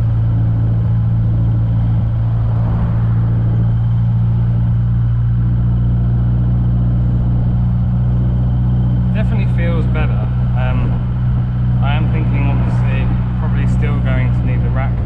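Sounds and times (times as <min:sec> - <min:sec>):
car engine humming: 0:00.0 - 0:15.0
road and tyre noise: 0:00.0 - 0:15.0.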